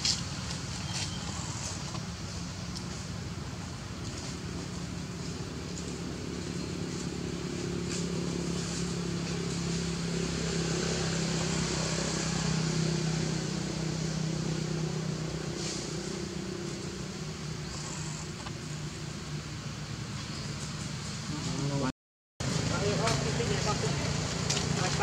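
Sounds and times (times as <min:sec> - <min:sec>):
engine hum with hiss: 0:00.0 - 0:25.0.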